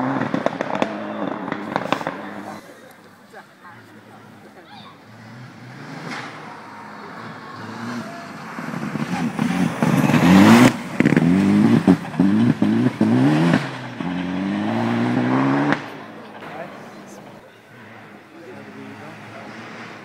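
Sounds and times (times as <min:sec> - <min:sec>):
rally car engine at full throttle: 0:00.0 - 0:20.0
second rally car accelerating: 0:00.0 - 0:20.0
tyres on gravel: 0:00.0 - 0:20.0.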